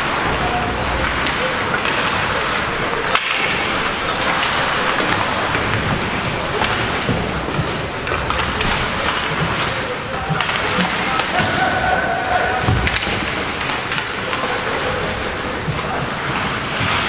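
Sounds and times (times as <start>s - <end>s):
hockey sticks and puck clacking: 0.0s - 17.0s
skates scraping on ice: 0.0s - 17.0s.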